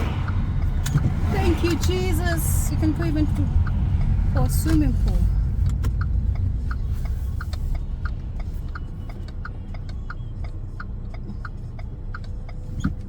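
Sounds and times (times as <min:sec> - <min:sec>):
low rumble of car: 0:00.0 - 0:13.0
turn signal ticking: 0:00.0 - 0:13.0.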